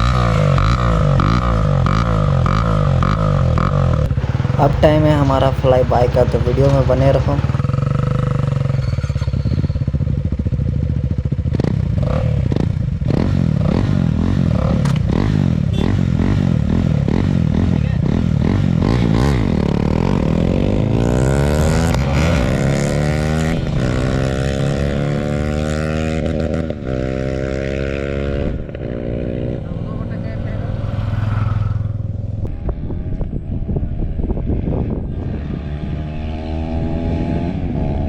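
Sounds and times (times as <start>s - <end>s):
unsilenced motorcycle engine revving: 0.0s - 38.0s.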